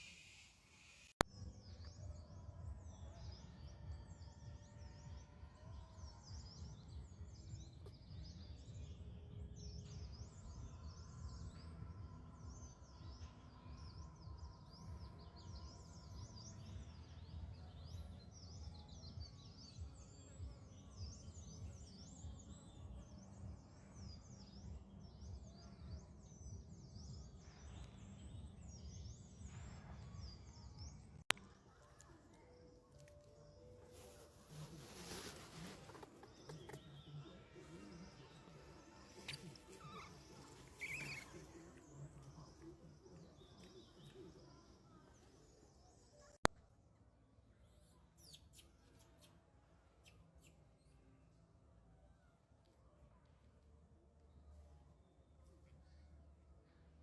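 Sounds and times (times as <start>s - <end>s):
small birds chirping: 0.0s - 46.4s, 47.6s - 51.2s.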